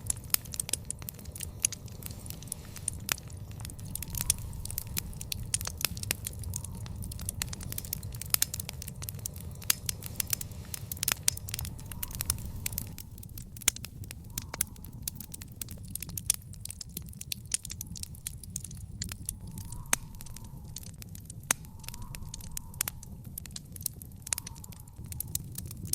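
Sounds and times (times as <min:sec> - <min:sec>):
low rumble: 0:00.0 - 0:25.9
sharp pops of fire: 0:00.0 - 0:25.9
wood fire crackling: 0:00.0 - 0:25.9.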